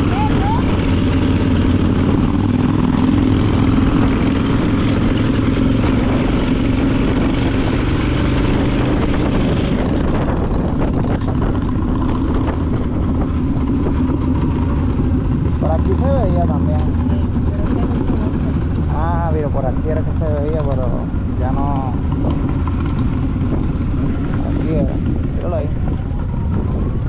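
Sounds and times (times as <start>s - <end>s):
motorcycle engine running: 0.0s - 27.0s
road noise: 0.0s - 27.0s
rushing wind: 0.0s - 27.0s.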